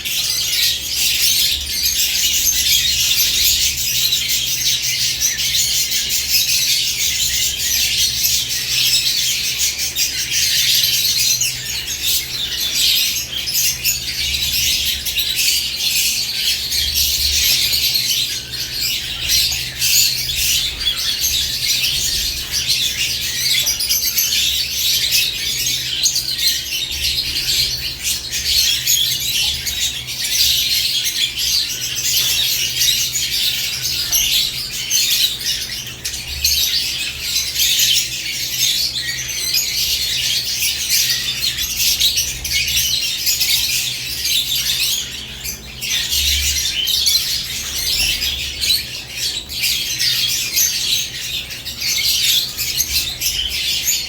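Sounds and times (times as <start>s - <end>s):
lovebirds chirping and squawking: 0.0s - 54.0s.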